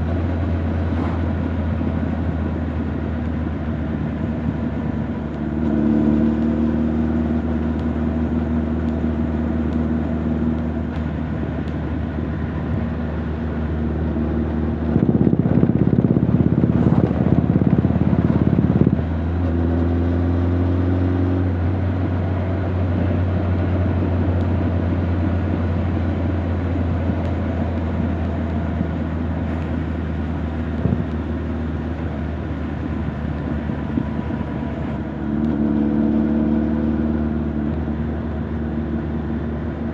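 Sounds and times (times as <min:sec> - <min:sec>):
motorcycle exhaust cruising: 0:00.0 - 0:39.9.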